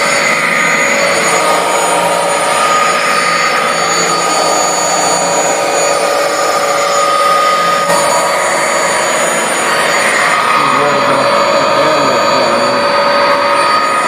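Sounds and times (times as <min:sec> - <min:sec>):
carpet washer suction whine: 0:00.0 - 0:14.0.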